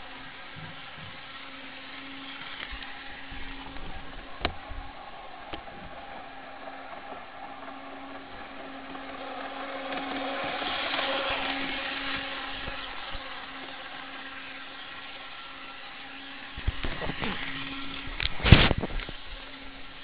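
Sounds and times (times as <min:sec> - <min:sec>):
model train motor whirring: 0:00.0 - 0:20.0
wheels clicking on track: 0:00.0 - 0:20.0.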